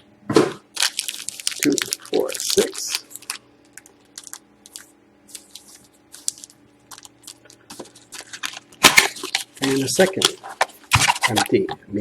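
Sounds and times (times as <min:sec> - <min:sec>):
faint steady hum: 0:00.0 - 0:12.0
card packs crinkling and rustling: 0:00.7 - 0:11.6.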